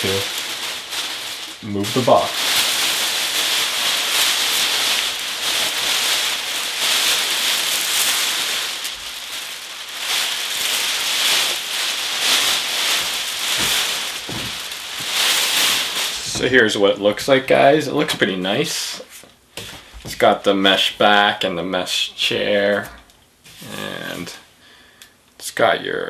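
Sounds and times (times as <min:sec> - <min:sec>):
plastic bag crinkling: 0:00.0 - 0:22.0, 0:23.6 - 0:24.4.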